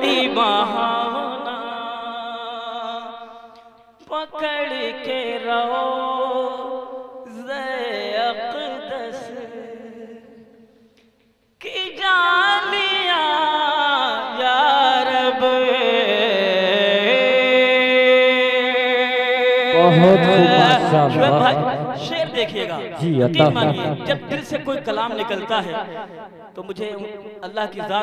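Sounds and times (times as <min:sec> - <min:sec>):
man chanting: 0:00.0 - 0:03.1, 0:04.0 - 0:10.4, 0:11.6 - 0:25.9, 0:26.5 - 0:28.0.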